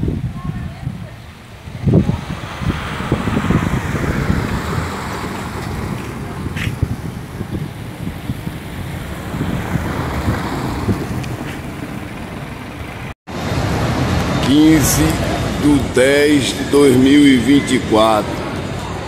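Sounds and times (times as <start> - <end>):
wind rumbling on microphone: 0.0 - 16.8
vehicles on wet cobblestones: 0.0 - 19.0.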